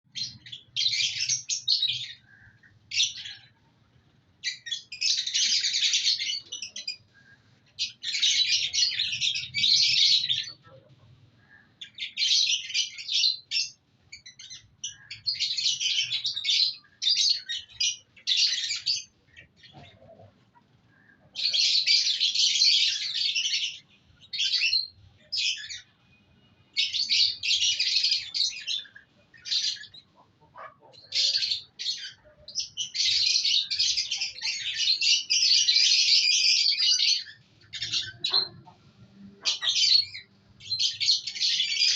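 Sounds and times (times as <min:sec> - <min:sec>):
birds chirping shrilly: 0:00.1 - 0:03.8, 0:04.4 - 0:41.9.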